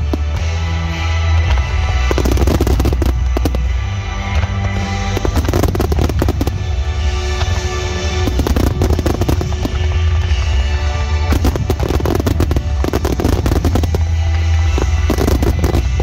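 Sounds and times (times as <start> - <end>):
fireworks bursting: 0.0 - 16.0
loud music with heavy bass: 0.0 - 16.0.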